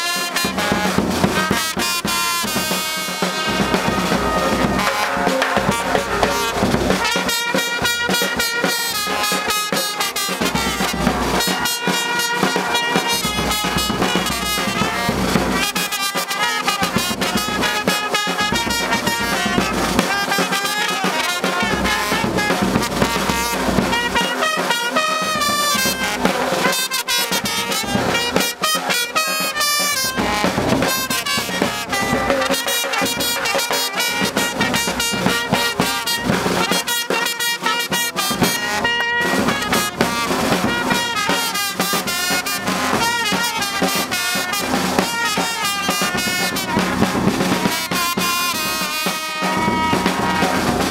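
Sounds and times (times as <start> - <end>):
brass band playing upbeat tune: 0.0 - 50.9
snare drum: 0.0 - 50.9.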